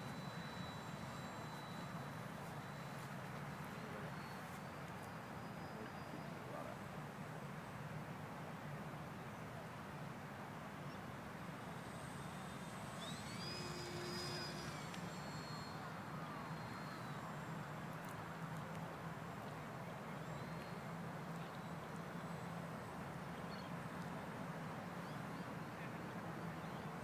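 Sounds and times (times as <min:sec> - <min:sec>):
distant model plane motor droning: 0:00.0 - 0:06.9, 0:10.8 - 0:27.0.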